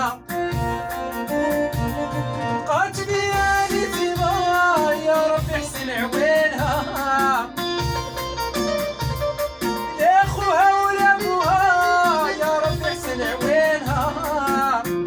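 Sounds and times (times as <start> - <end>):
drum beat: 0.0 - 15.0
ornamented lead melody: 0.0 - 15.0.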